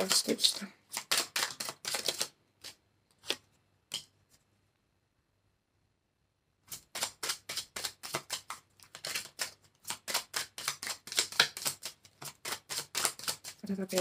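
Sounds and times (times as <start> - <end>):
cards being shuffled: 0.0 - 4.2, 6.7 - 14.0.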